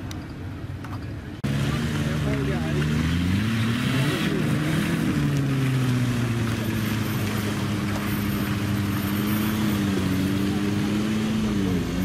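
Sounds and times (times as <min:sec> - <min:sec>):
off-road engine pulling under load: 0:00.8 - 0:12.0.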